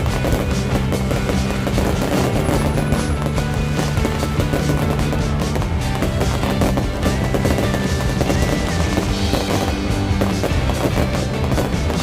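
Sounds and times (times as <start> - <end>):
fireworks crackling and popping: 0.0 - 12.0
music with held notes: 0.0 - 12.0.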